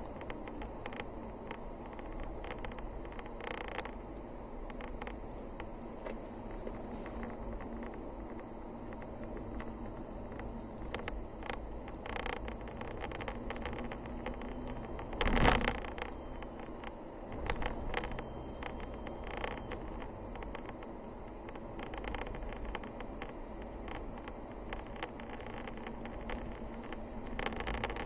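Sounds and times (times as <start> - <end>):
car engine and tyre noise: 0.0 - 28.0
small clicks and rattles: 0.0 - 28.0.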